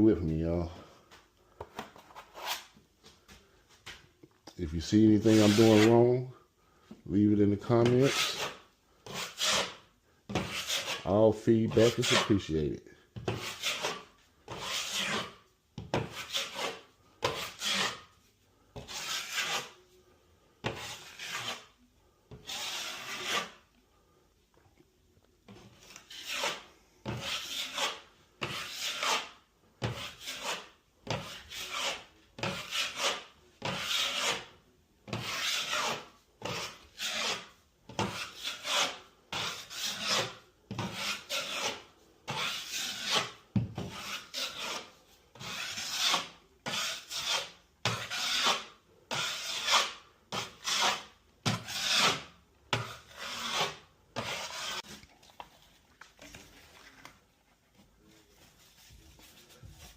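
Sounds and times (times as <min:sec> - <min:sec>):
blade scraping drywall compound: 0:01.8 - 0:02.8, 0:04.8 - 0:06.2, 0:07.4 - 0:12.6, 0:13.2 - 0:19.9, 0:20.6 - 0:23.8, 0:25.5 - 0:55.1, 0:58.0 - 0:59.9.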